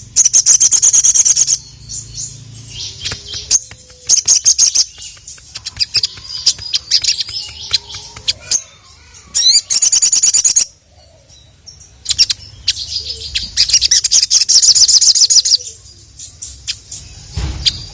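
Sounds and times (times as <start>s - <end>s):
sunbird trilling: 0.0s - 17.9s.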